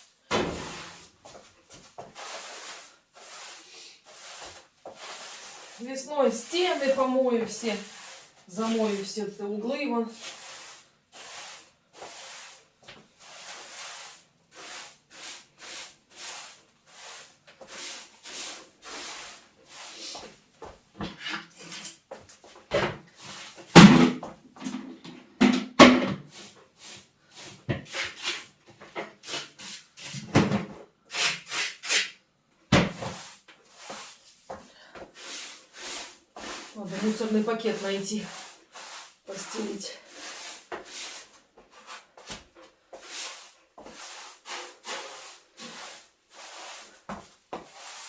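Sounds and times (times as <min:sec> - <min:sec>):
broom sweeping a floor: 0:00.0 - 0:24.4, 0:26.1 - 0:32.2, 0:32.8 - 0:48.0.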